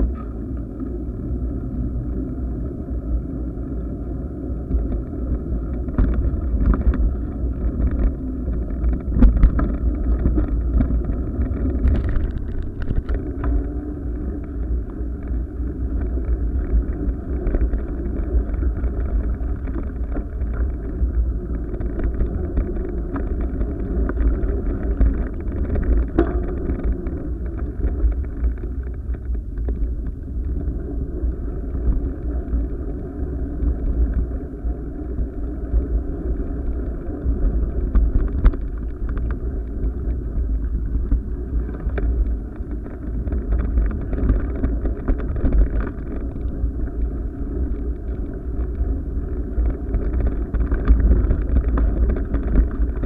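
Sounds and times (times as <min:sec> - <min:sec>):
wind buffeting camera: 0:00.0 - 0:53.0.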